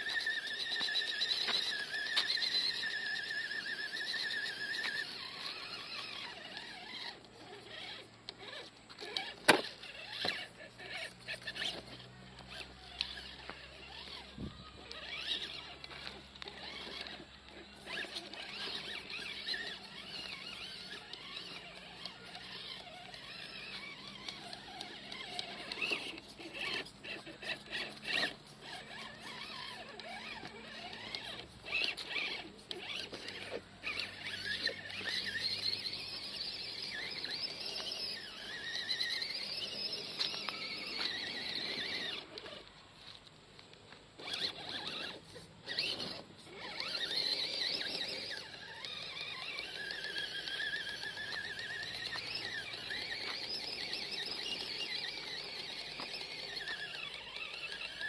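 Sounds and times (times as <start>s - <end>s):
rc car electric motor whining: 0.0s - 58.0s.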